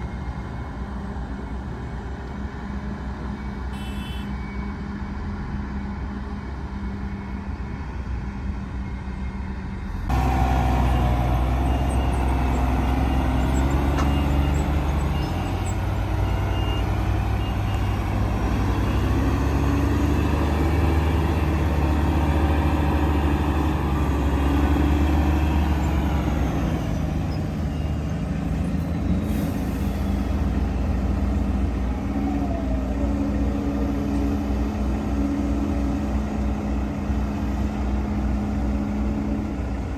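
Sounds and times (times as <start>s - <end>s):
diesel earthmoving machinery: 0.0s - 39.9s.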